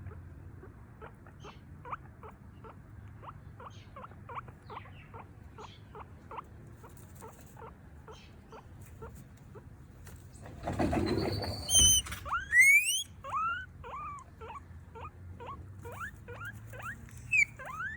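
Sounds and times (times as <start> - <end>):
guinea pig wheeking: 0.0 - 17.9.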